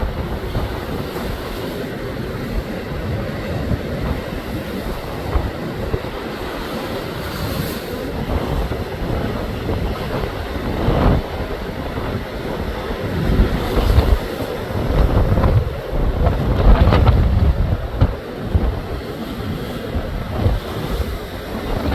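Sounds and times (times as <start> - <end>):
waves surging in: 0.0 - 21.9
wind buffeting microphone: 0.0 - 21.9.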